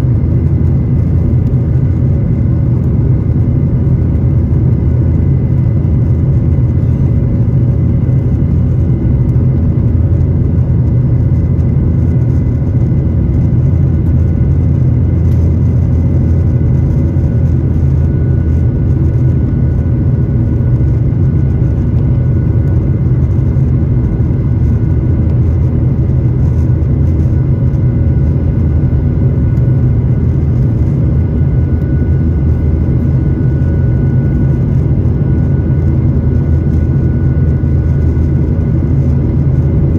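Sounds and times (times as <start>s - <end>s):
faint whining tones: 0.0s - 39.9s
jet engines deep rumble: 0.0s - 39.9s.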